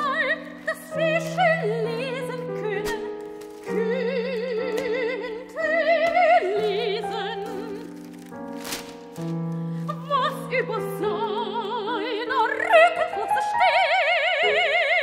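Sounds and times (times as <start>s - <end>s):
soprano singing with vibrato: 0.0s - 8.1s, 9.8s - 15.0s.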